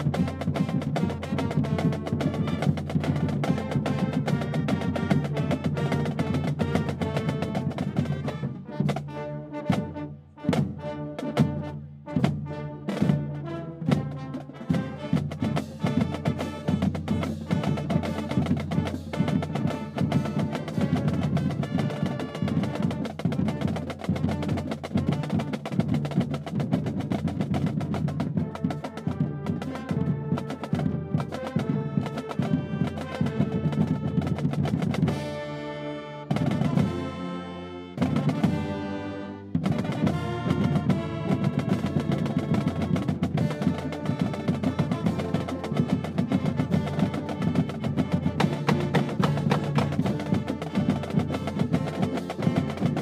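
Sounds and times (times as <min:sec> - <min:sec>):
marching band playing: 0:00.0 - 0:53.0.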